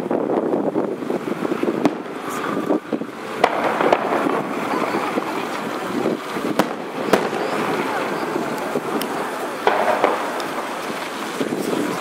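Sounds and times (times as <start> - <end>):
city traffic rumble: 0.0 - 12.0
wind buffeting microphone: 0.0 - 12.0
distant firework bangs: 1.7 - 12.0.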